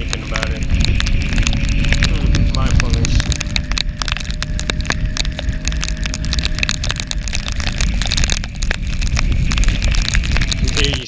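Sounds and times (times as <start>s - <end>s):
low wind: 0.0s - 11.0s
rain spattering on microphone: 0.0s - 11.0s
road rumble: 0.0s - 11.0s.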